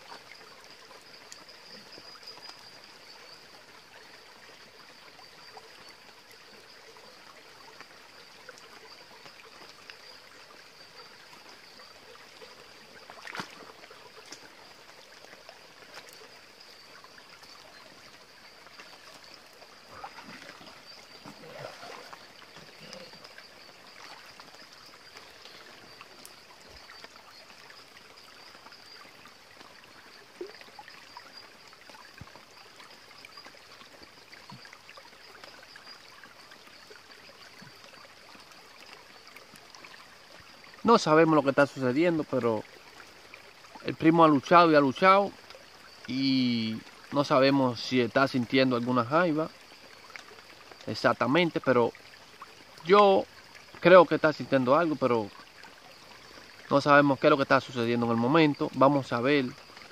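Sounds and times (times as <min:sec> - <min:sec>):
creek water running over rocks: 0:00.0 - 0:59.9.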